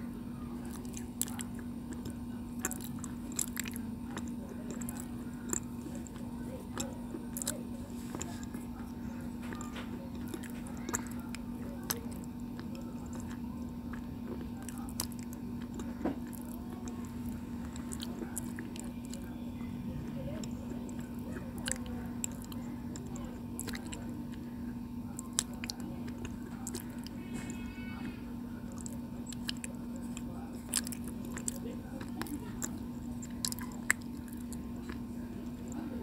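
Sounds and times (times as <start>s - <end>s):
steady low hum: 0.0s - 36.0s
chewing crunchy stone: 0.6s - 19.7s, 20.3s - 27.6s, 28.4s - 36.0s.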